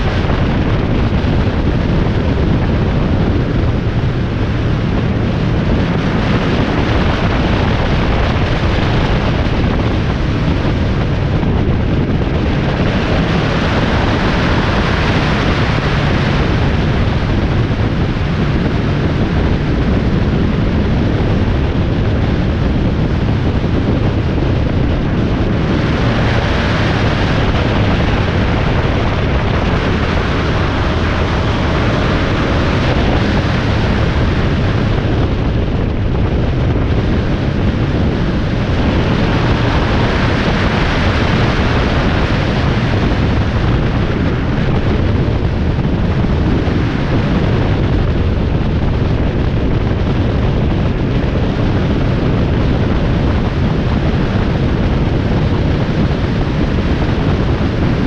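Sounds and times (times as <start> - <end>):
vehicle road noise: 0.0 - 58.0
wind noise on microphone: 0.0 - 58.0.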